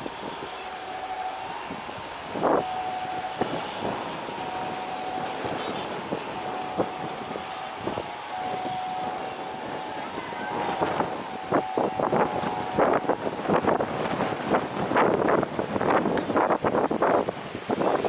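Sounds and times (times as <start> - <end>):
jet engines whining: 0.0 - 18.0
wind buffeting microphone: 0.0 - 18.0.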